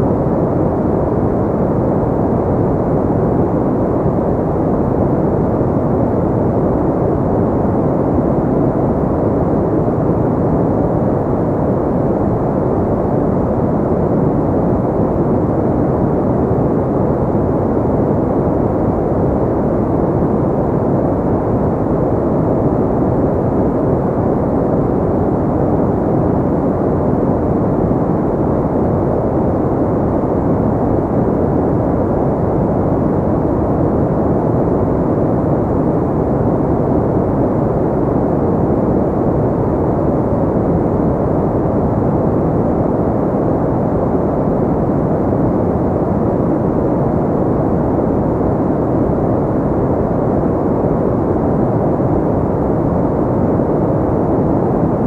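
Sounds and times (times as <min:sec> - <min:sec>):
deep muffled white noise: 0:00.0 - 0:55.0.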